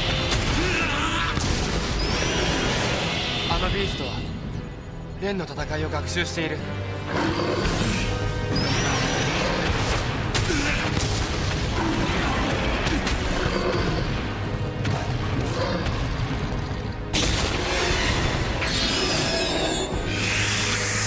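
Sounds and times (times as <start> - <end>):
battle soundtrack music: 0.0 - 21.0.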